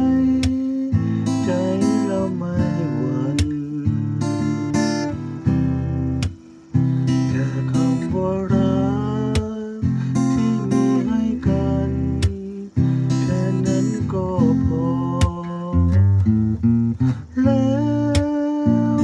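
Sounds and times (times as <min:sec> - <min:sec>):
man singing: 0:00.0 - 0:04.6, 0:07.1 - 0:16.3, 0:17.0 - 0:19.0
acoustic guitar strumming: 0:00.0 - 0:19.0.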